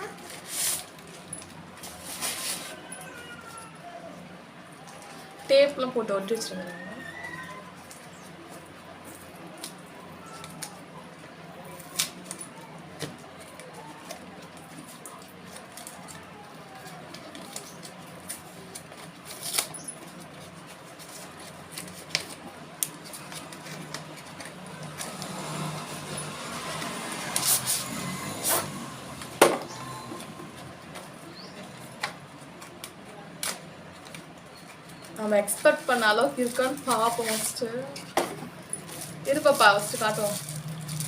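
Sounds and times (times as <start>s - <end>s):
packaging and tape rustling: 0.0s - 3.7s, 6.7s - 41.0s
tearing and crinkling plastic: 0.0s - 3.8s, 6.7s - 41.0s.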